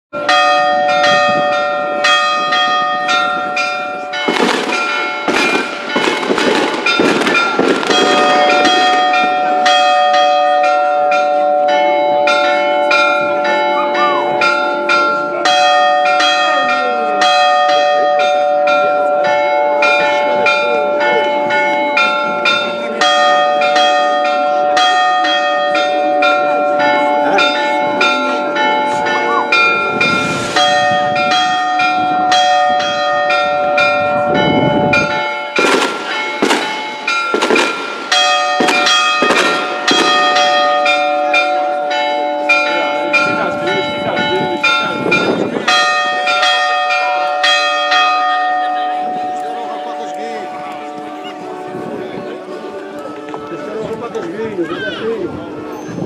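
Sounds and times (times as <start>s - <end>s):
church bells ringing: 0.1s - 56.0s.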